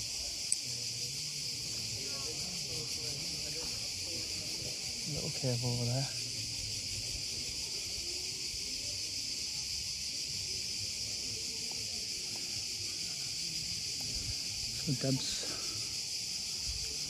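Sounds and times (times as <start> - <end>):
cicadas chorus: 0.0 - 17.0.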